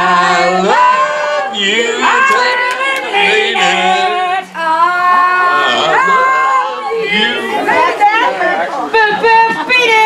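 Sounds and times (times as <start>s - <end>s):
karaoke singing: 0.0s - 10.0s.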